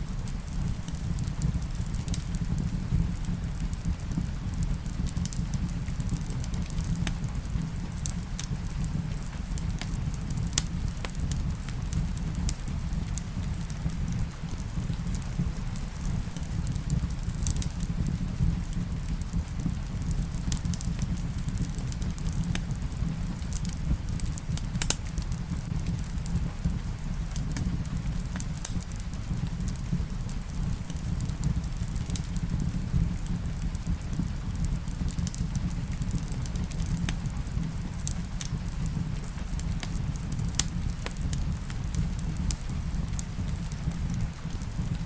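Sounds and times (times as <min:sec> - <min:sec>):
steady rain: 0:00.0 - 0:45.0
wood fire crackling: 0:00.0 - 0:45.0.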